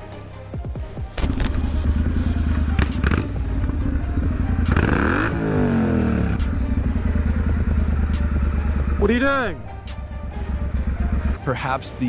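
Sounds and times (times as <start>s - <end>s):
motorcycle engine running: 1.2s - 12.0s.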